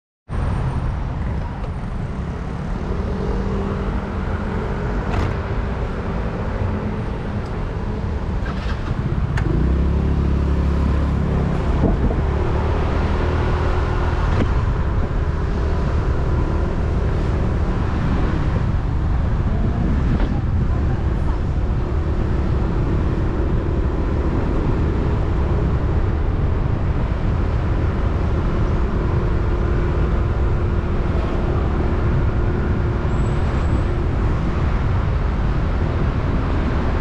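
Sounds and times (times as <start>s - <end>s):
road traffic: 0.3s - 37.0s.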